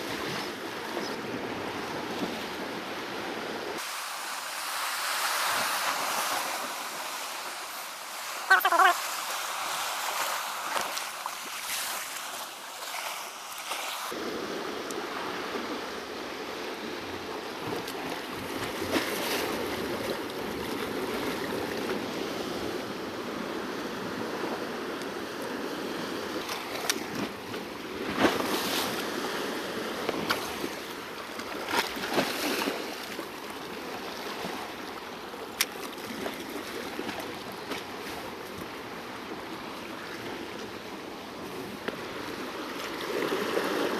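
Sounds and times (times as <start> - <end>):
waves washing against rocks: 0.0 - 24.8, 25.8 - 43.9.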